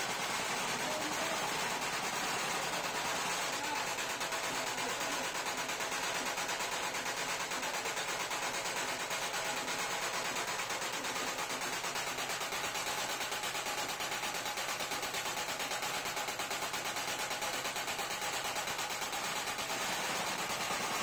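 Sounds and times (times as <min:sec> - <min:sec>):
machine motor running: 0:00.0 - 0:21.0
punching machine clatter: 0:00.0 - 0:21.0.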